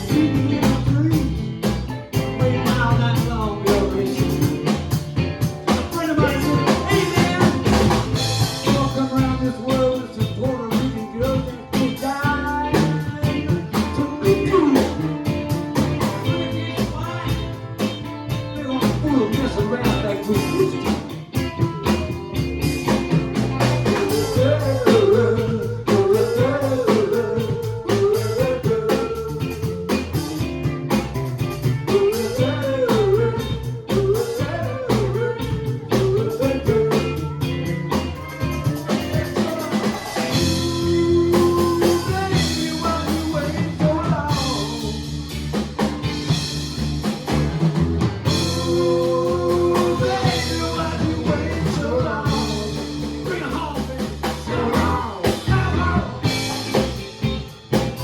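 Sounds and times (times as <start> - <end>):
bending lead guitar line: 0.0 - 58.0
live band playing: 0.0 - 58.0.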